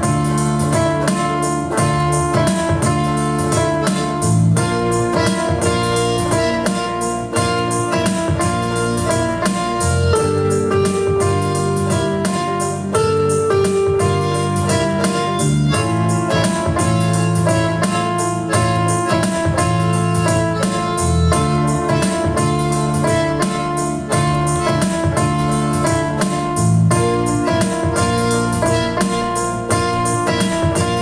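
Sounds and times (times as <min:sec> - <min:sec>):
bass line: 0:00.0 - 0:31.0
keyboard and guitar melody: 0:00.0 - 0:31.0.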